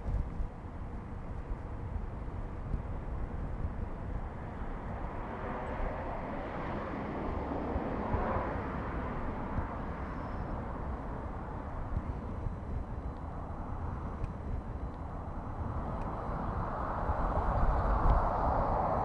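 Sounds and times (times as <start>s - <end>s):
bicycle ride rumble: 0.0s - 19.0s.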